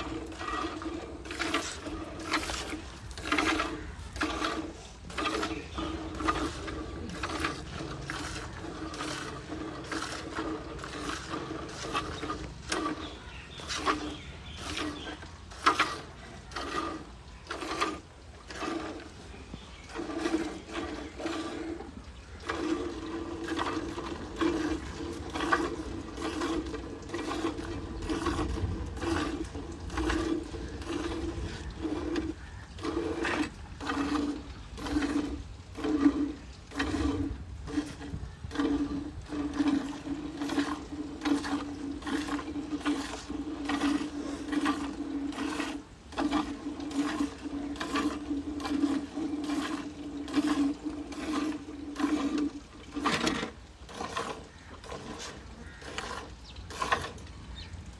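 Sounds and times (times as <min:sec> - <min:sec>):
milk squirting into bucket: 0:00.0 - 0:57.9.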